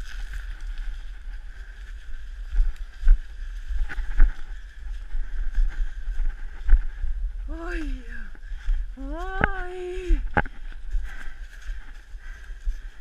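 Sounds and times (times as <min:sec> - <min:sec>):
footsteps crunching dry leaves: 0:00.0 - 0:13.0.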